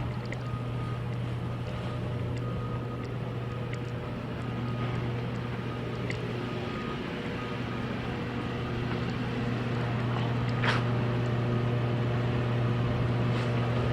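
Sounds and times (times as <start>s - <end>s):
engine hum: 0.0s - 13.9s.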